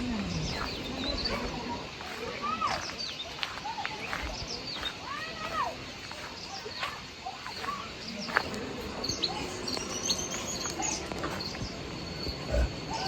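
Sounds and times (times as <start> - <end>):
bird chirping: 0.0 - 12.6.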